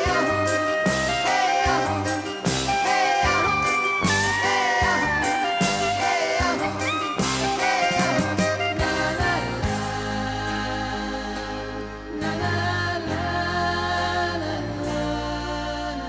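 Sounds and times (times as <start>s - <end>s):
song with drums and bass: 0.0s - 15.0s.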